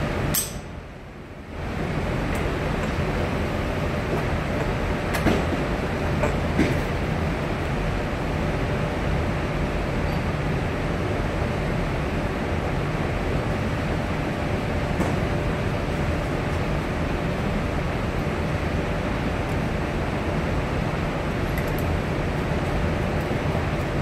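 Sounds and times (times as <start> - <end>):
low rumbling background noise: 0.0 - 24.0.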